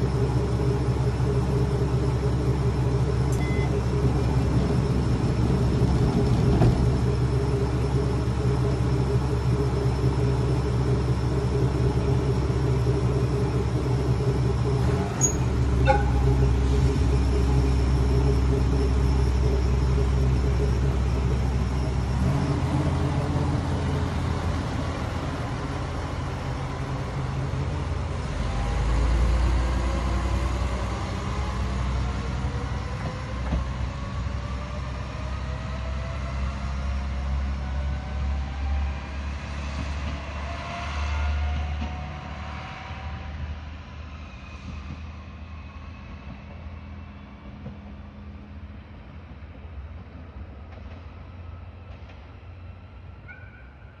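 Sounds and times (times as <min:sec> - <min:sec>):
rising whines: 0:00.0 - 0:43.6
diesel railcar engine: 0:00.0 - 0:54.0.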